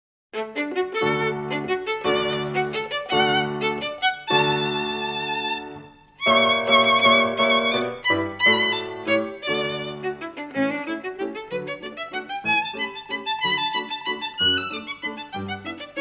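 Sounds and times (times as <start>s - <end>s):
lively fiddle music: 0.4s - 16.0s.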